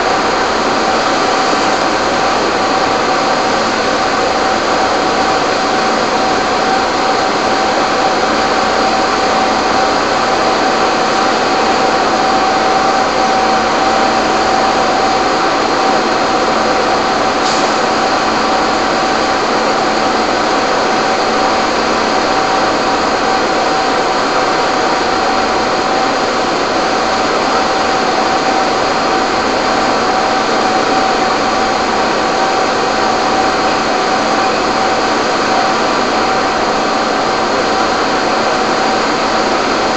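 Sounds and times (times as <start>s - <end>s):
machine drone with whine: 0.0s - 39.9s.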